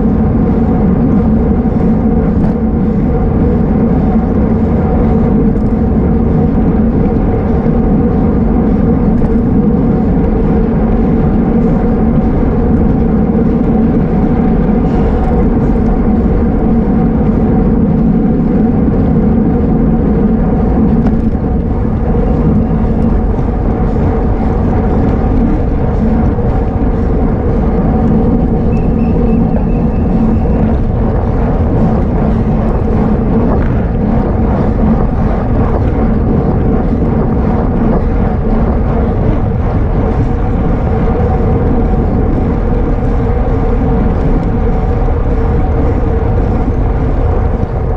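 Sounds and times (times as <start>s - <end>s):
constant low hum: 0.0s - 47.9s
wind rushing over microphone: 0.0s - 47.9s.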